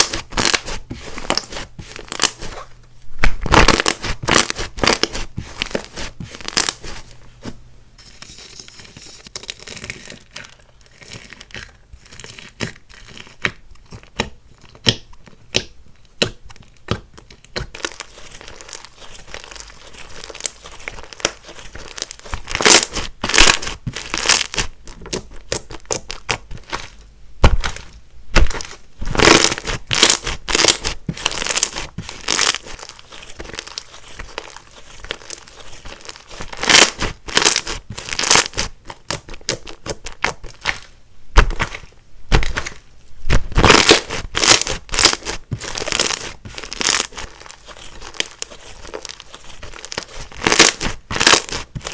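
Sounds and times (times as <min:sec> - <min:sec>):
slime crackling and popping: 0:00.0 - 0:02.6, 0:03.2 - 0:06.9, 0:09.4 - 0:51.9.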